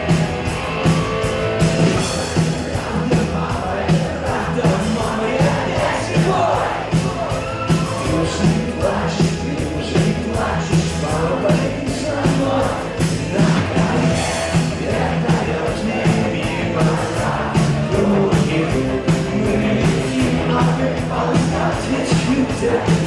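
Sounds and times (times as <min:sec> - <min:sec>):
drumbeat: 0:00.0 - 0:23.0
live rock band playing: 0:00.0 - 0:23.0
person singing: 0:01.9 - 0:23.0.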